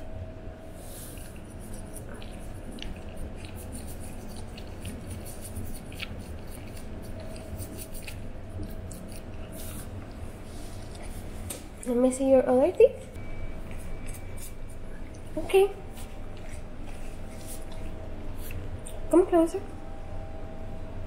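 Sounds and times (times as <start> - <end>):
faint steady hum: 0.0 - 21.0
toothbrush scrubbing teeth: 0.8 - 12.2, 13.6 - 19.2.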